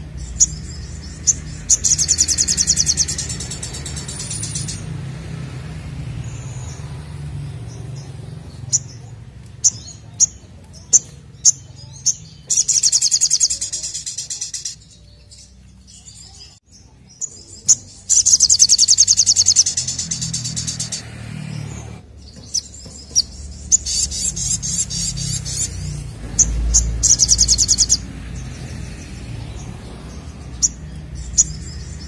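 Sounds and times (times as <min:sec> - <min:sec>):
sunbird chirping and trilling: 0:00.0 - 0:32.0.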